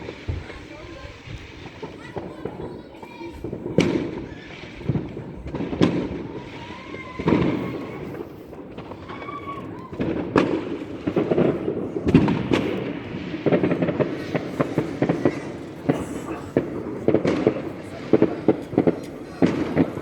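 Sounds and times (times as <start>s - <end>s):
firework bangs: 0.0s - 20.0s
firework crackling: 0.0s - 20.0s.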